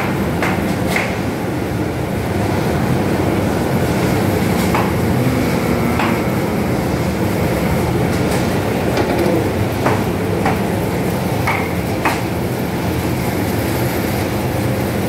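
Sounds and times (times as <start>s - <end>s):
machinery mechanical rumble: 0.0s - 15.0s.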